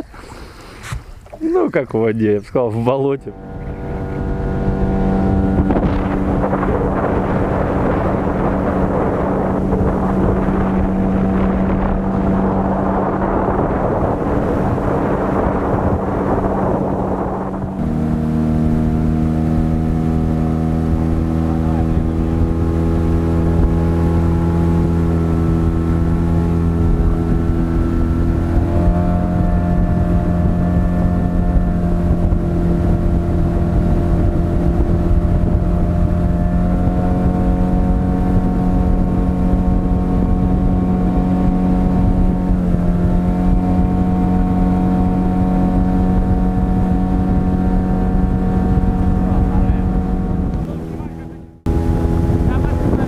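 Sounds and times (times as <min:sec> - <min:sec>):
outboard motor running: 0:00.0 - 0:53.0
water noise: 0:00.0 - 0:53.0
wind noise: 0:00.0 - 0:53.0.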